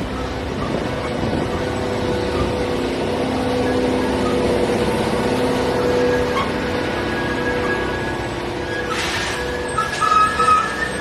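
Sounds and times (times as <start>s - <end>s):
electric locomotive hum: 0.0s - 11.0s.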